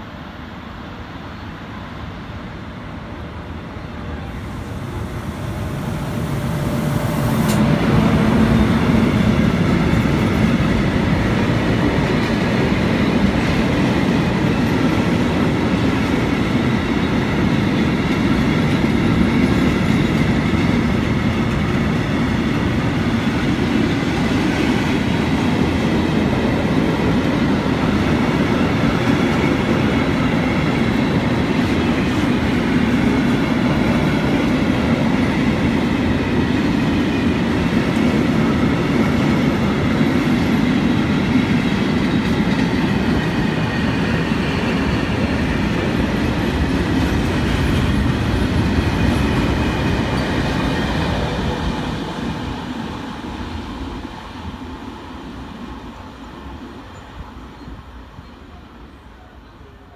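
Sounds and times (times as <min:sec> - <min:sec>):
train wheels rumbling on rails: 0:00.0 - 0:59.3.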